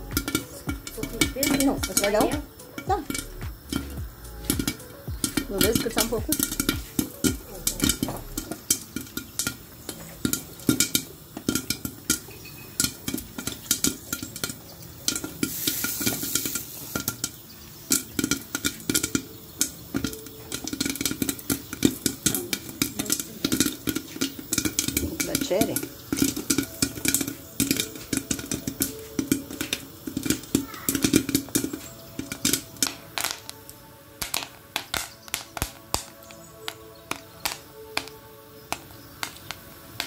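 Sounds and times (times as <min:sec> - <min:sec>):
popcorn popping against lid: 0:00.0 - 0:40.0
steady sizzle: 0:00.0 - 0:40.0.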